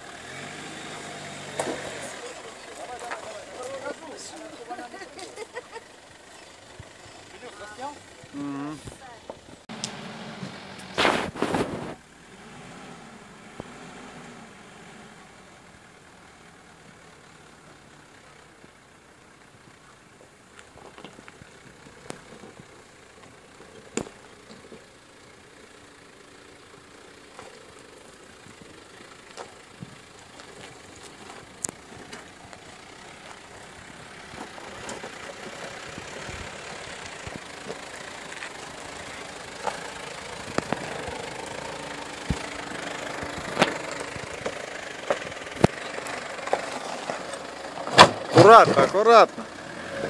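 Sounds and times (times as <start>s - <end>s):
engine running: 0.0s - 50.0s.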